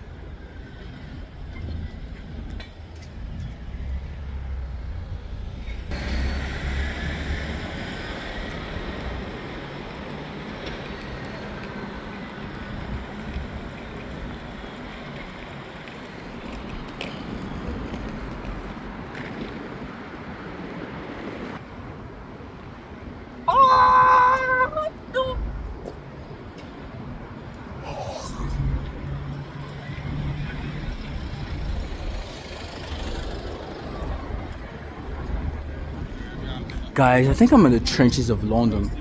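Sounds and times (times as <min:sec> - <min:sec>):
train rushing noise: 0:00.0 - 0:23.4, 0:25.5 - 0:38.6
train rumble: 0:00.0 - 0:23.5, 0:24.2 - 0:39.0.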